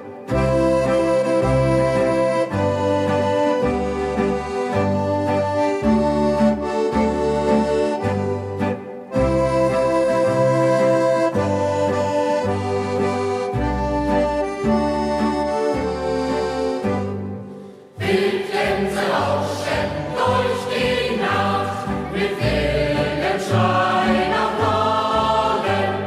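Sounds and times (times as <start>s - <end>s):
accordion playing folk music: 0.0s - 26.0s.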